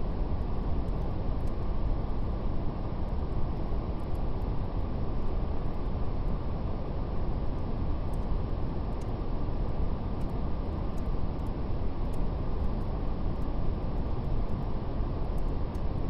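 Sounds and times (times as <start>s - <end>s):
brown noise hiss: 0.0s - 16.0s
faint fire crackles: 0.0s - 16.0s.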